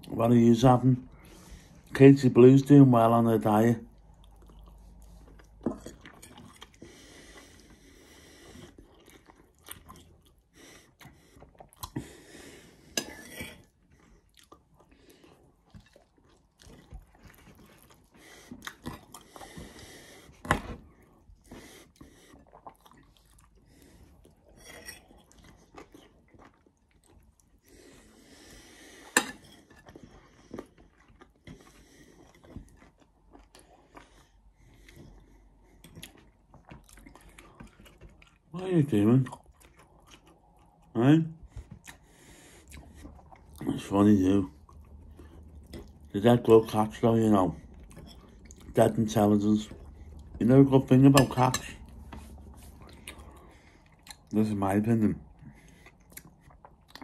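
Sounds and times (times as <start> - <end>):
man chewing salad: 3.8 - 54.4, 55.1 - 57.0.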